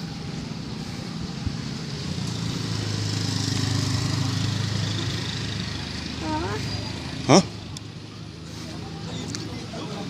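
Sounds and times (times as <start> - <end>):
vehicle engine passing: 0.0 - 10.0.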